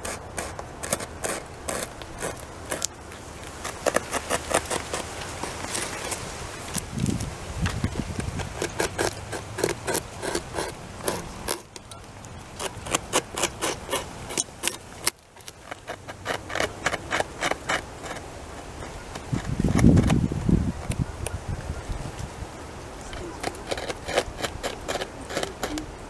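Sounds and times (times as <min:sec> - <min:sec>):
beaver gnawing wood: 0:00.0 - 0:21.4, 0:22.9 - 0:26.0.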